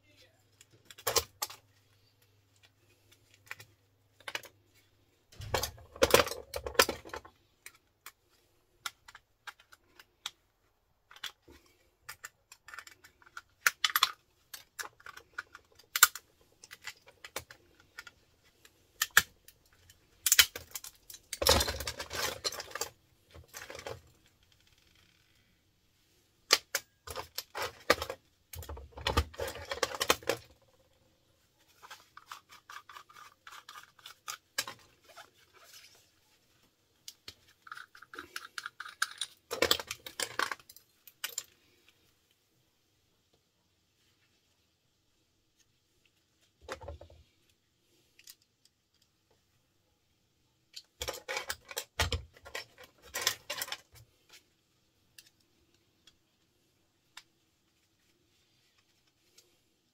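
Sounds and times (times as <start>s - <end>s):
small parts clicking and clattering: 0.5s - 4.6s, 5.3s - 25.5s, 26.4s - 36.1s, 36.9s - 42.1s, 45.6s - 49.5s, 50.6s - 59.9s.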